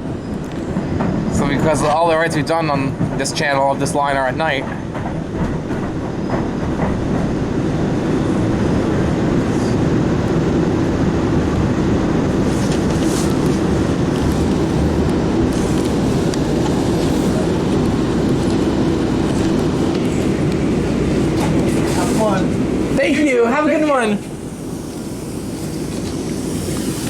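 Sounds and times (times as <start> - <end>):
subway car rumbling on track: 0.0 - 27.0.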